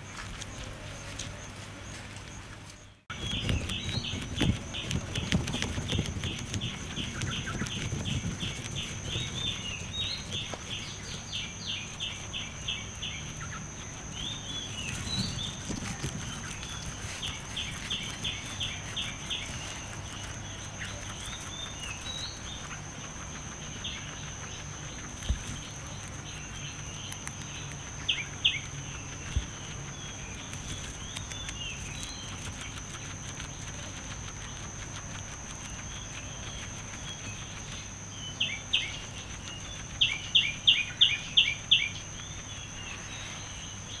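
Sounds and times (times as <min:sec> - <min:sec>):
guinea pig chewing grass: 0:00.0 - 0:44.0
insect drone: 0:00.0 - 0:44.0.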